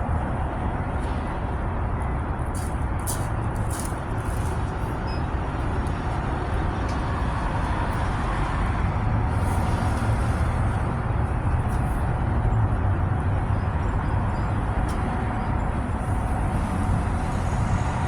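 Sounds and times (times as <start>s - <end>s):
vehicle rumble from inside: 0.0s - 18.0s.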